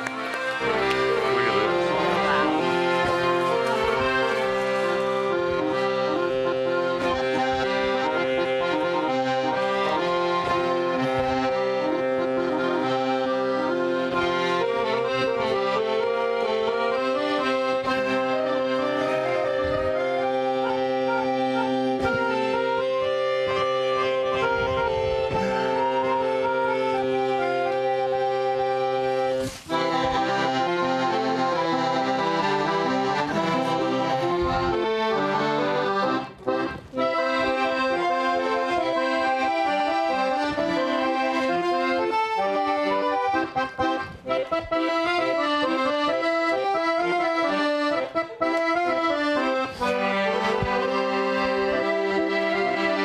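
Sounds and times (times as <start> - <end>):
accordion music: 0.0 - 53.0.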